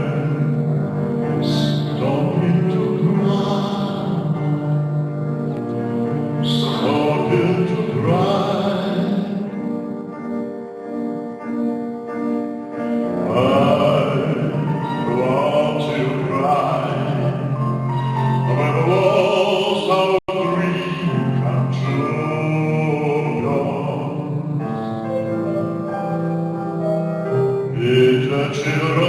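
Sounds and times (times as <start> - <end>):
baritone singing with vibrato: 0.0 - 10.2, 13.1 - 25.8, 27.7 - 29.0
piano accompaniment: 0.0 - 29.0.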